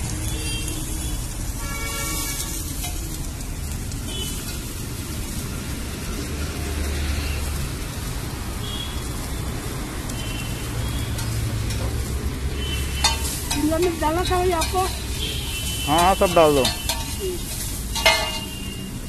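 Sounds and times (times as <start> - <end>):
onions sizzling on a griddle: 0.0 - 19.0.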